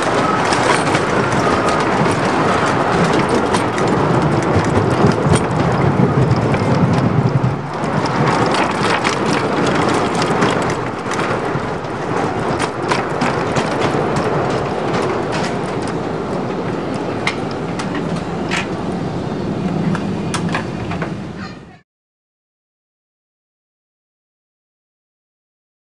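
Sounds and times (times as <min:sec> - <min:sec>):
roller coaster rumbling on track: 0:00.0 - 0:21.8
wheels clacking on rails: 0:00.0 - 0:21.8.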